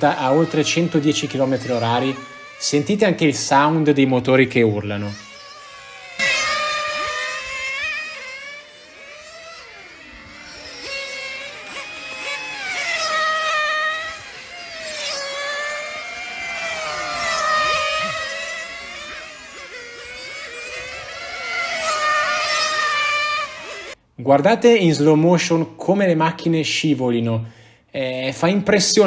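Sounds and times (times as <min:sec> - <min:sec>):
rc car engines screaming: 0:00.0 - 0:24.0.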